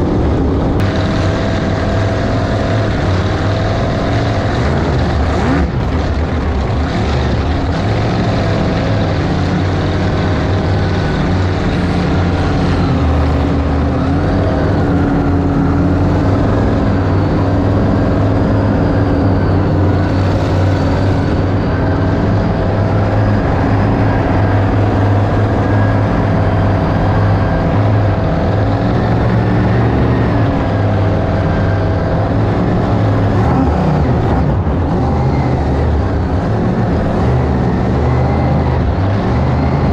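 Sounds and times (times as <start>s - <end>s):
boat inboard engine running: 0.0s - 39.9s.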